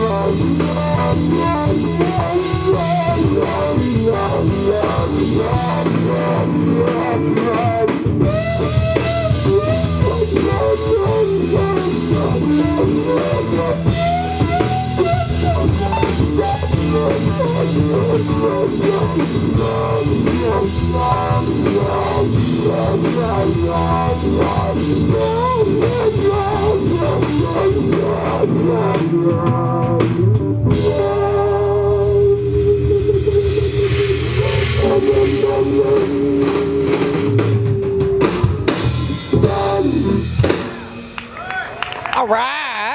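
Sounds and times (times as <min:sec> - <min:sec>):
lead electric guitar: 0:00.0 - 0:42.3
drum kit: 0:00.0 - 0:42.4
bass groove: 0:00.0 - 0:42.9.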